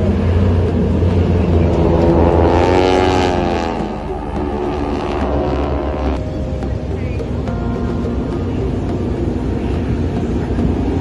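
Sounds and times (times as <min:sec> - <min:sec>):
propeller airplanes droning overhead: 0:00.0 - 0:11.0.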